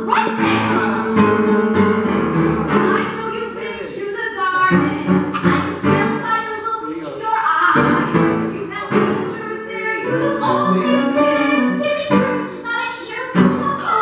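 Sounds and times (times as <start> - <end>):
upright piano accompaniment: 0.0 - 3.9, 4.6 - 6.8, 7.6 - 14.0
singers performing a song: 0.0 - 14.0.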